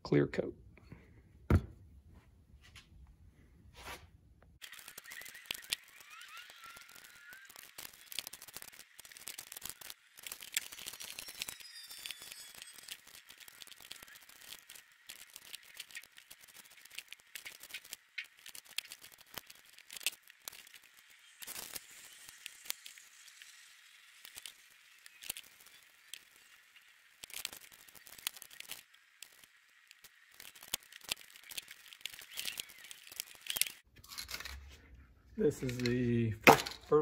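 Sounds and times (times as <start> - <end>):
tape pulled from roll: 3.7 - 34.9
hands rustling tape and plastic: 3.8 - 36.8.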